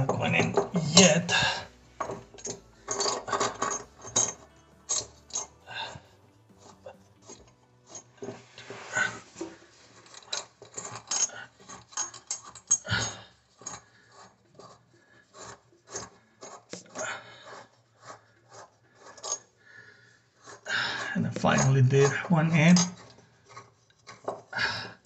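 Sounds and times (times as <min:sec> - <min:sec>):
nut scraping on threads: 0:00.0 - 0:19.5, 0:20.4 - 0:24.5.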